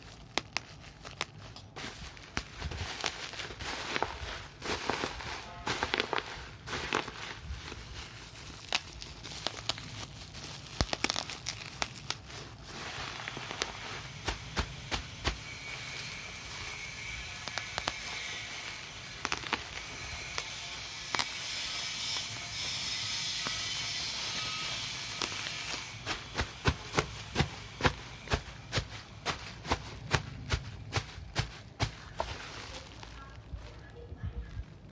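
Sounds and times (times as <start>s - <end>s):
bubble wrap crinkling: 0.0s - 34.9s.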